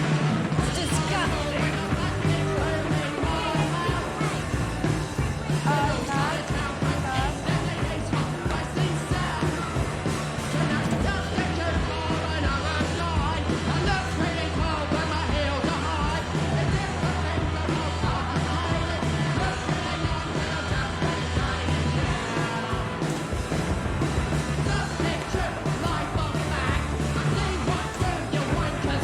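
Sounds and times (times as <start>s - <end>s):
punk rock band with singer: 0.0s - 29.0s.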